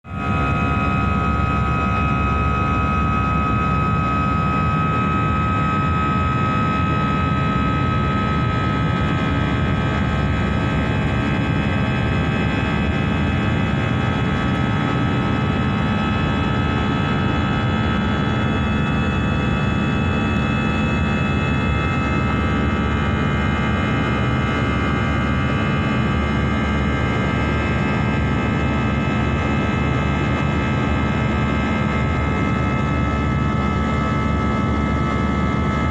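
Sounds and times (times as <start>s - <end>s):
jet airliner cabin rumble: 0.1s - 35.9s
steady whining tones: 0.1s - 35.9s.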